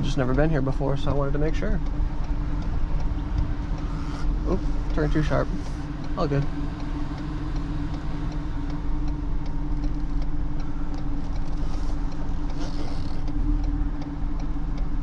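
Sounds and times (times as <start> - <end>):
diesel truck engine droning: 0.0 - 15.0
faint light ticks: 0.0 - 15.0.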